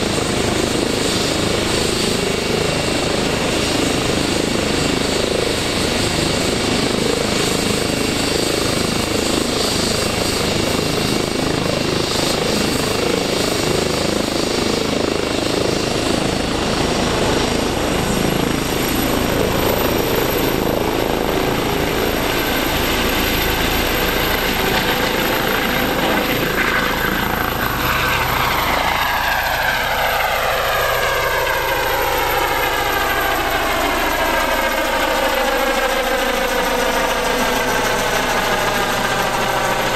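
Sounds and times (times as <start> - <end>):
helicopter turbines and rotors: 0.0 - 39.9.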